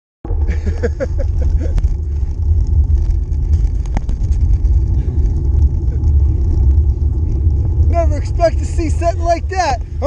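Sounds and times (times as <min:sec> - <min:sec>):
low wind rumble on microphone: 0:00.2 - 0:10.0
bicycle riding over asphalt: 0:00.3 - 0:10.0.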